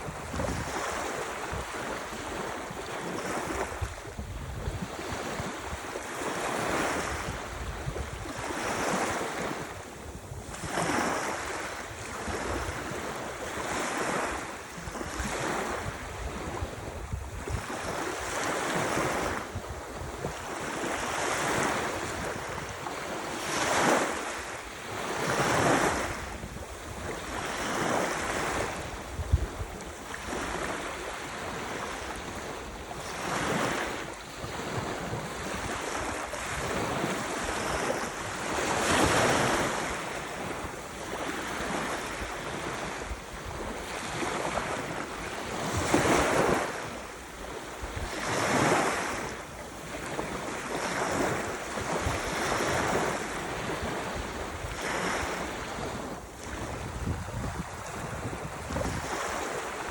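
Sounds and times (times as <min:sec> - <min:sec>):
waves breaking: 0:00.0 - 0:59.9
wind on microphone: 0:00.0 - 0:59.9.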